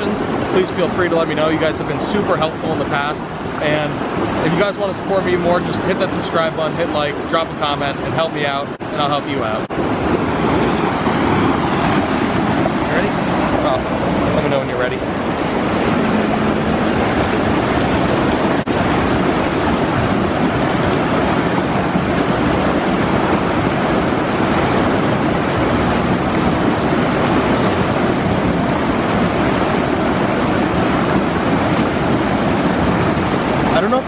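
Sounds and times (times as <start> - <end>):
creek water rushing over rocks: 0.0 - 34.0.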